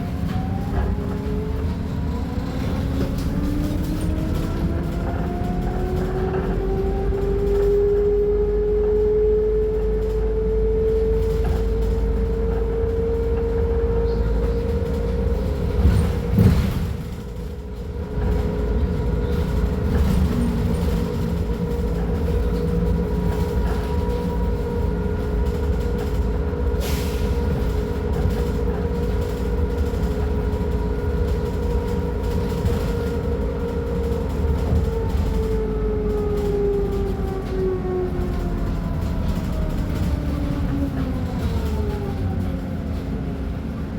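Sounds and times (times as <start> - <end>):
diesel bus engine running: 0.0 - 43.9
high engine whine: 0.0 - 43.9.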